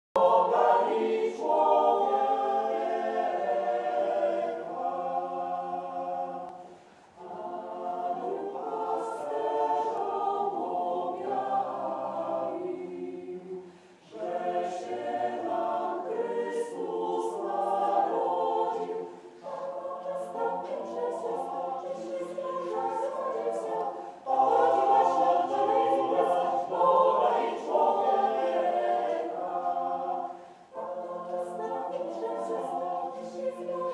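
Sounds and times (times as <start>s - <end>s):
choir singing a cappella: 0.1s - 33.9s.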